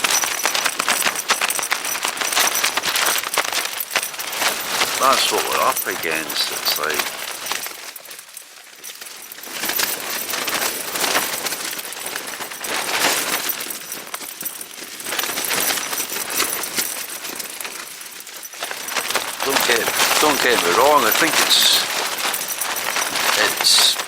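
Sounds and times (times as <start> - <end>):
tent fabric flapping: 0.0 - 24.0.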